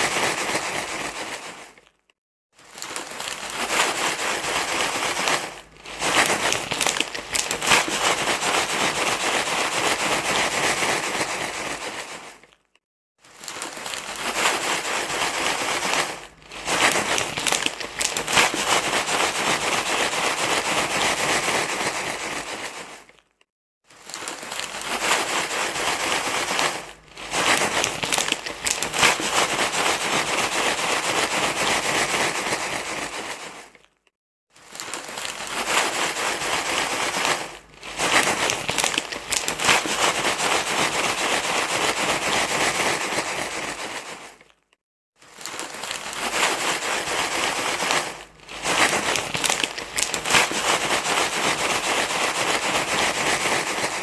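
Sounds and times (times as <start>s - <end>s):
crinkling rustle: 0.0s - 54.0s.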